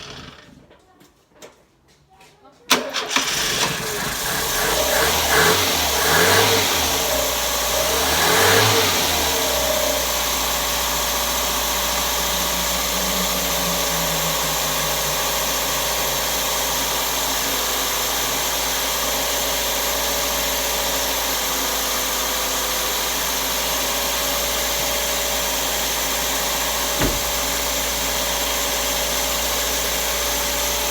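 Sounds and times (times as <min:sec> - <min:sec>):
engine revving and idling: 0:03.1 - 0:30.9.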